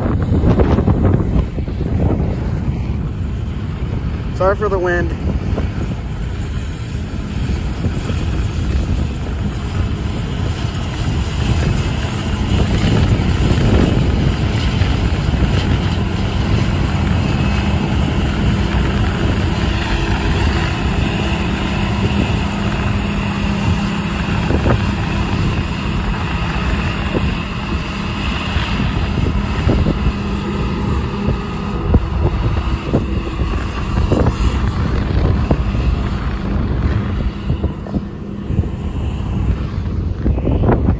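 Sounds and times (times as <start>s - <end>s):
combine harvester engine hum: 0.0s - 40.9s
high machine whine: 0.0s - 40.9s
wind buffeting microphone: 0.0s - 40.9s.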